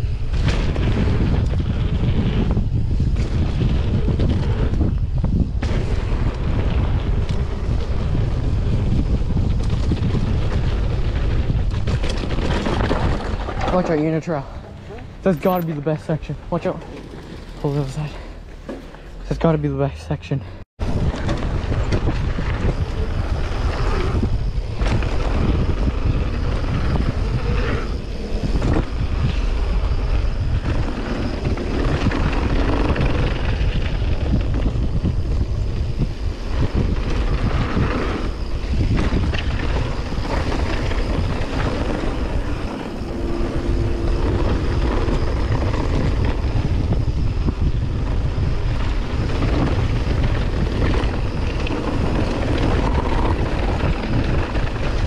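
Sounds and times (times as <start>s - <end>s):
bike tyre noise on dirt: 0.0s - 55.0s
wind buffeting microphone: 0.0s - 55.0s.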